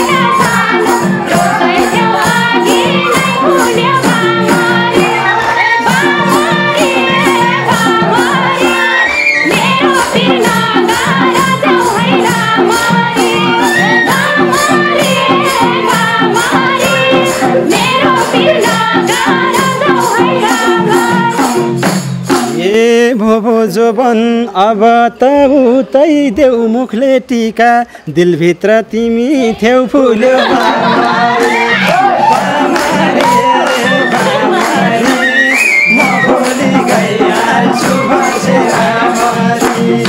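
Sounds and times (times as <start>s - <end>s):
madal drums beating: 0.0s - 22.8s, 30.4s - 40.0s
lively melody line: 0.0s - 22.9s, 30.1s - 40.0s
folk music with drums: 0.0s - 23.2s, 30.4s - 40.0s
jingling percussion: 0.0s - 23.4s, 30.2s - 40.0s.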